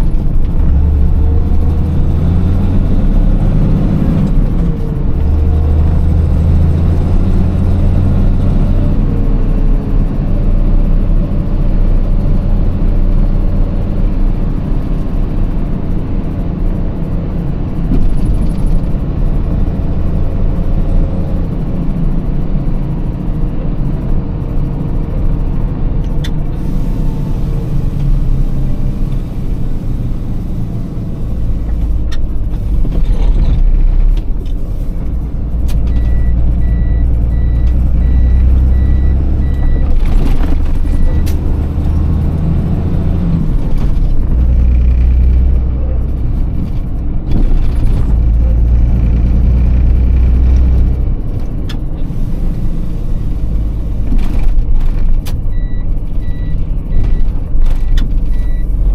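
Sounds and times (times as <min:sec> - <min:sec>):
diesel truck engine pulling through gears: 0:00.0 - 0:58.9.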